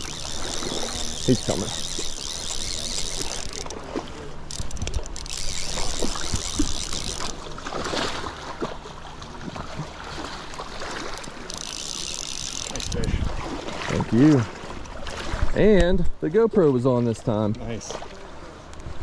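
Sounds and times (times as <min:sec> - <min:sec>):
fish splashing in water: 0:00.0 - 0:15.6.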